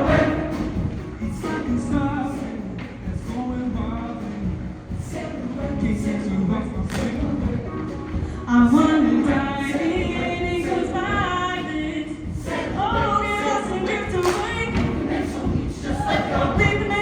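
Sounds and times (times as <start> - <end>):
band accompaniment: 0.0 - 17.0
choir singing in harmony: 0.0 - 17.0.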